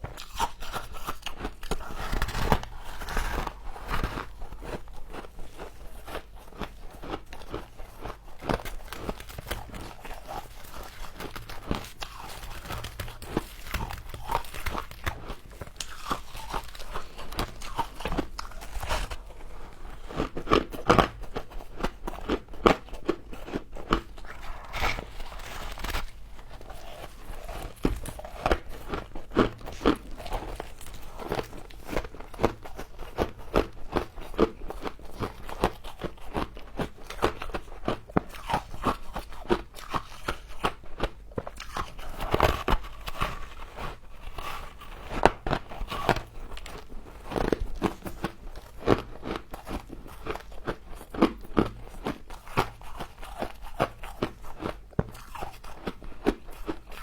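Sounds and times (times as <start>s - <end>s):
frost crunching as chewed: 0.0s - 57.0s.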